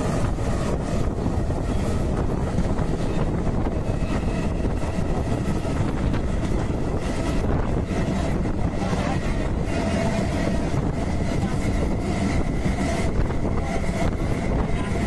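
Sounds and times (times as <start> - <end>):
train wheels rumbling on rails: 0.0 - 15.0
wind buffeting microphone: 0.0 - 15.0.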